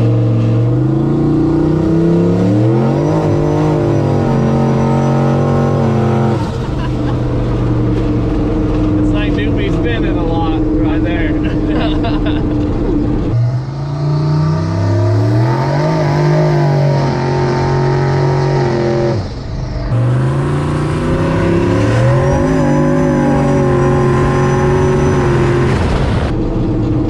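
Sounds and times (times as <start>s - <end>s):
high whine: 0.0s - 27.0s
tires spinning on snow: 0.0s - 27.0s
truck engine accelerating hard: 0.0s - 27.0s.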